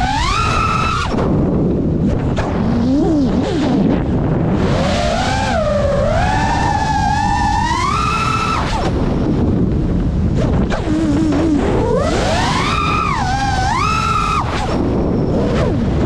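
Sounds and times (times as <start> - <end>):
drone motors whining: 0.0 - 16.0
rush of wind: 0.0 - 16.0.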